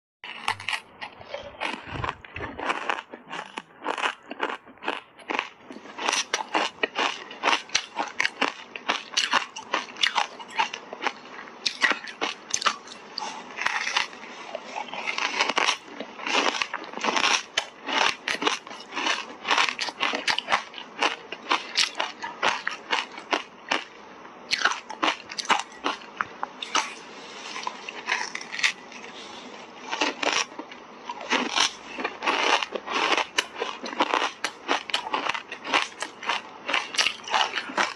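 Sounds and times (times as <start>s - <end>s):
ice crunching between teeth: 0.2s - 29.1s, 29.8s - 37.9s.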